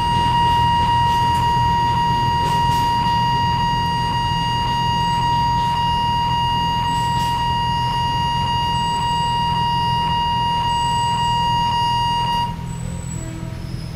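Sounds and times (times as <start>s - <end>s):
level crossing alarm ringing: 0.0s - 13.2s.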